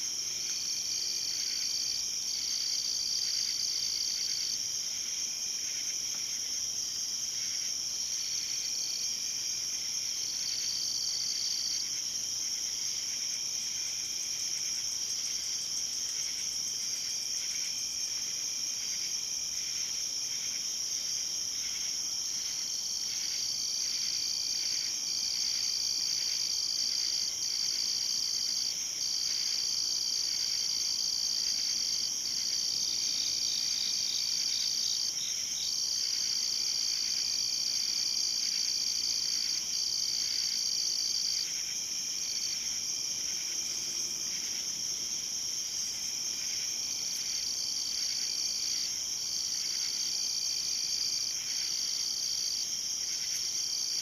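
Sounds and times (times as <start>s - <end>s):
high continuous insect trill: 0.0s - 54.0s
rhythmic cricket chirping: 0.1s - 54.0s.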